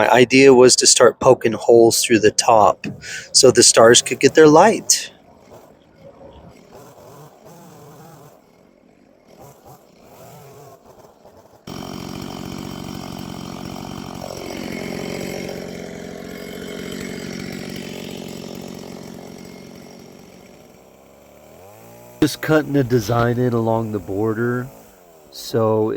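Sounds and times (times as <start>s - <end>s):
chainsaw boring into wood: 0.0s - 25.9s.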